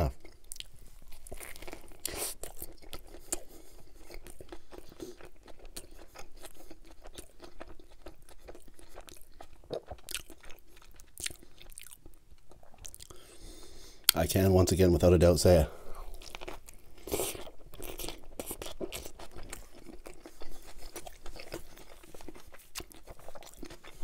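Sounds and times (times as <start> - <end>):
wet chewing with crunches: 0.0 - 14.2, 15.9 - 24.0.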